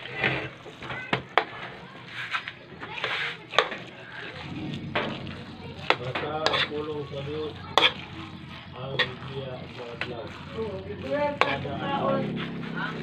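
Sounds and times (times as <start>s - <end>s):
utensil scraping metal pan: 0.0s - 13.0s.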